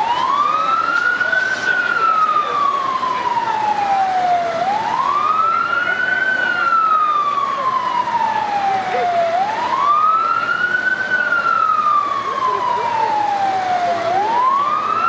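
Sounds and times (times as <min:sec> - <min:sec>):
fire engine siren wailing: 0:00.0 - 0:15.0.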